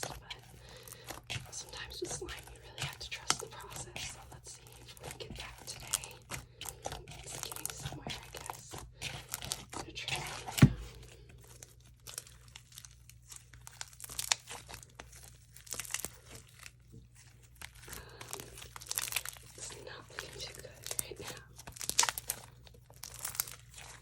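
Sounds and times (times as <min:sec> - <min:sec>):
slime squished by hand: 0:00.0 - 0:24.0.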